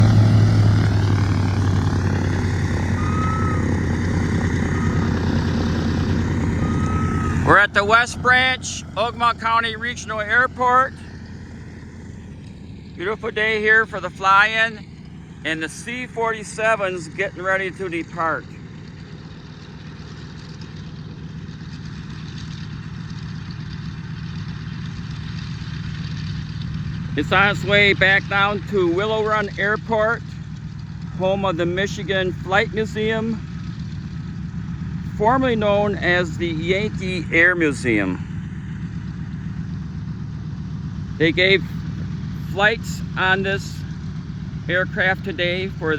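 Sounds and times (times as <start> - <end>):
propeller engines droning: 0.0 - 45.9.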